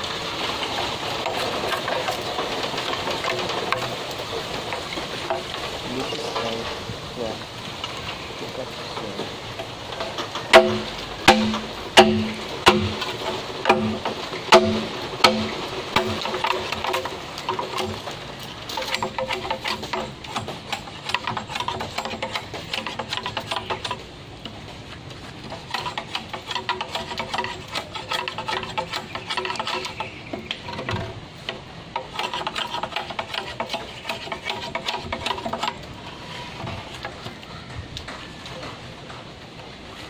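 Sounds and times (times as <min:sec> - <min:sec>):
machete scraping bamboo: 0:00.7 - 0:06.6, 0:09.9 - 0:37.4.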